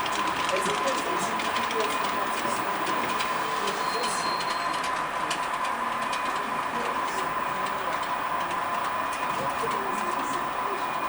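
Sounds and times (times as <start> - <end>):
model train whine: 0.0 - 11.0
wheels clicking on track: 0.0 - 11.0.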